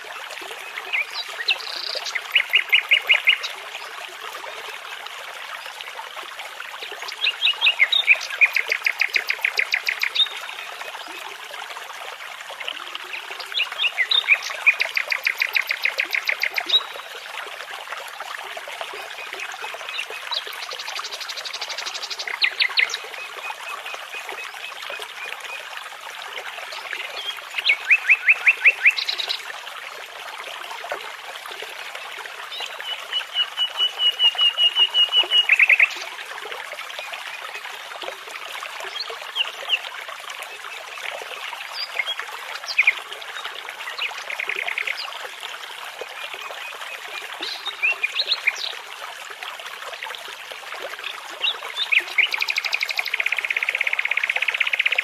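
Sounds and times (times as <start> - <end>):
babbling brook: 0.0 - 55.0.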